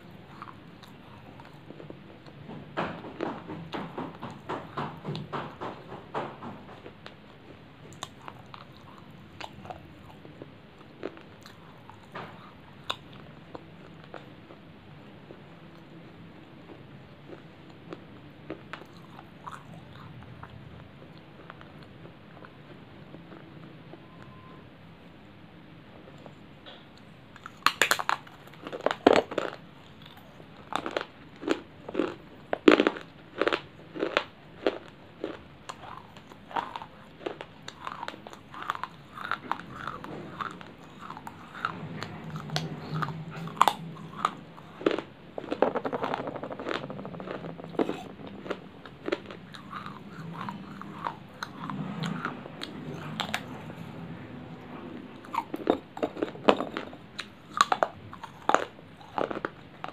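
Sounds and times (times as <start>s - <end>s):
crunchy chewing: 0.0s - 2.4s, 6.8s - 24.5s, 27.4s - 53.9s, 55.2s - 59.9s.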